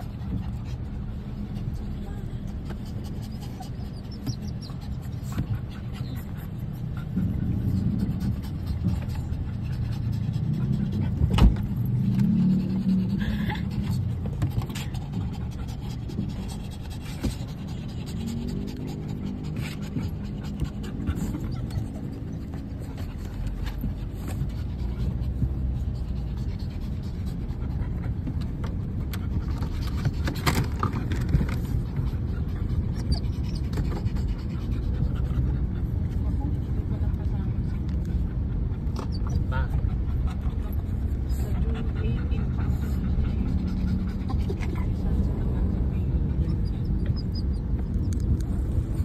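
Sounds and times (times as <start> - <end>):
car engine and tyres rumble: 0.0 - 49.0.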